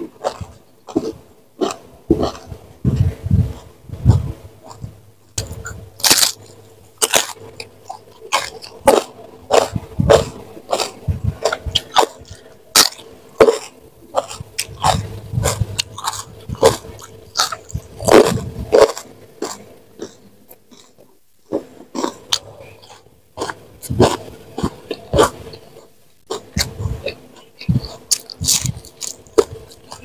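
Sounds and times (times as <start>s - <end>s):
person chewing crunches: 0.0s - 30.0s.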